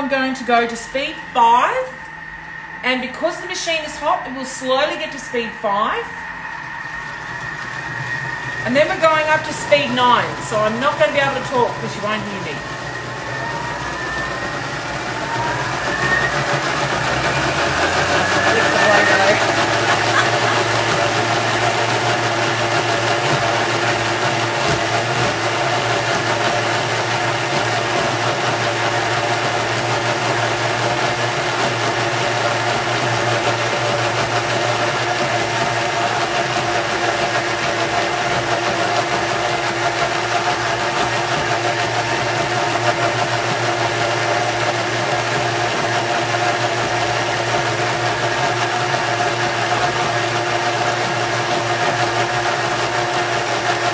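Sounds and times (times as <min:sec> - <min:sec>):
blender motor whirring: 0:00.0 - 0:53.9.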